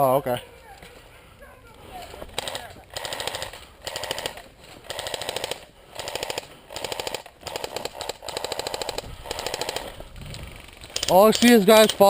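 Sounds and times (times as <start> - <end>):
airsoft gun full-auto bursts: 2.3 - 12.0.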